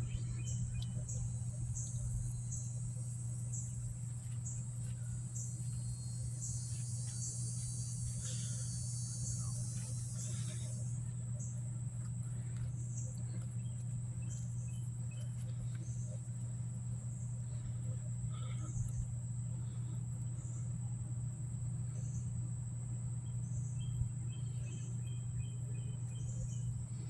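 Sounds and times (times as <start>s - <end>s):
crickets chirping: 0.0s - 27.0s
heat pump humming: 0.0s - 27.0s
insect buzz: 0.0s - 27.0s.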